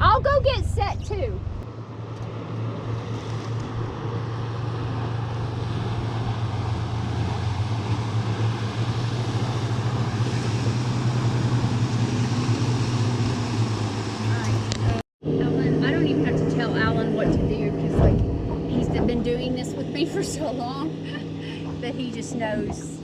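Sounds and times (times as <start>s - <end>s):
outboard motor running: 0.0s - 23.0s
rushing water wash: 0.0s - 23.0s.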